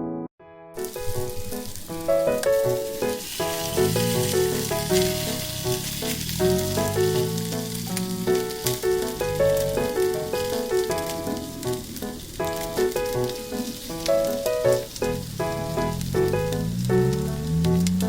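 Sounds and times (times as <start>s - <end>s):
piano music: 0.0s - 18.0s
sizzling hiss with crackles: 0.8s - 18.0s.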